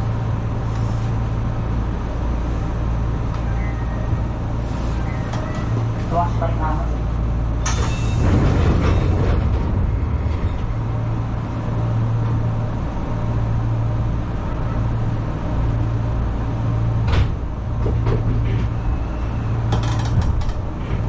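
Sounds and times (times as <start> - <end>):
electric train humming: 0.0 - 21.0.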